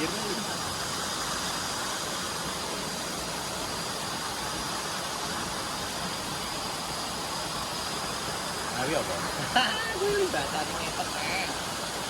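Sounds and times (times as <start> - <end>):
rushing hiss: 0.0 - 12.0.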